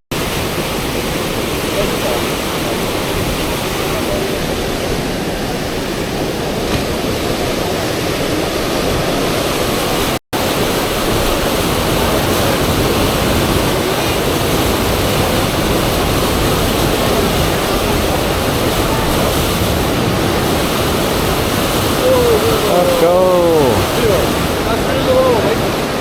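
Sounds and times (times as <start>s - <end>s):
river water rushing: 0.1s - 26.0s.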